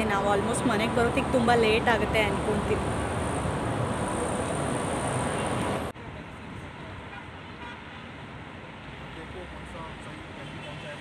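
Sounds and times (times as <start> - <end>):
road noise inside car: 0.0 - 11.0
street traffic noise: 0.0 - 11.0.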